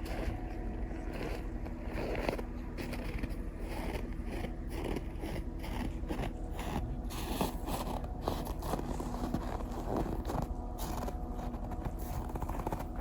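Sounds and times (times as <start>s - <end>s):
faint steady hum: 0.0s - 13.0s
footsteps crunching in snow: 0.0s - 13.0s.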